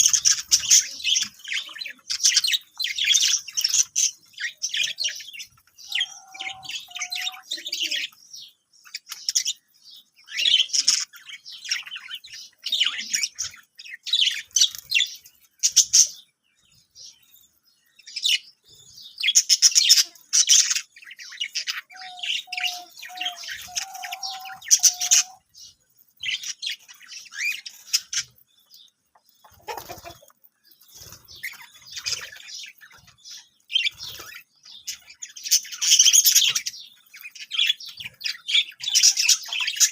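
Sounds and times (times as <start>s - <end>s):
budgerigars chirping and twittering: 0.0s - 39.9s.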